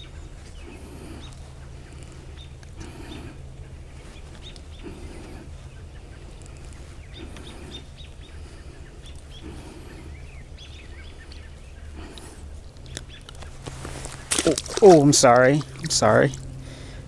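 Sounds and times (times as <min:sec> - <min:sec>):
soft rustle: 0:00.0 - 0:10.1, 0:10.9 - 0:16.5
low background hum: 0:00.0 - 0:17.0
small birds chirping: 0:00.0 - 0:17.0.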